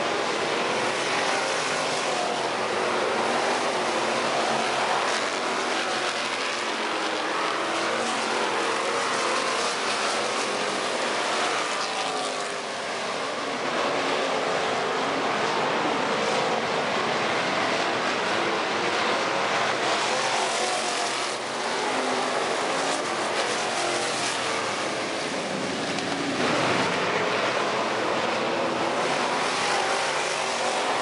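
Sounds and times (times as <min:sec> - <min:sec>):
race car engines droning: 0:00.0 - 0:31.0.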